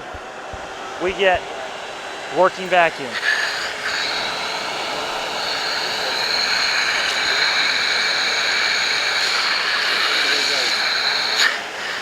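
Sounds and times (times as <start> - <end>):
vacuum motor whining: 0.0 - 12.0.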